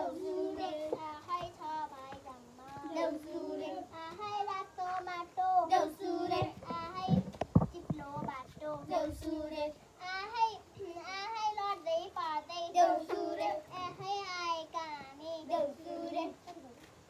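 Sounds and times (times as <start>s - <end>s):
child singing: 0.0s - 16.9s.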